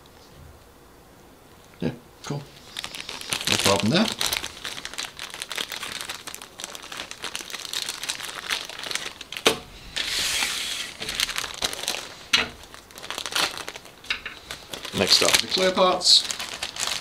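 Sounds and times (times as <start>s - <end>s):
plastic bag crinkling: 2.5s - 17.0s.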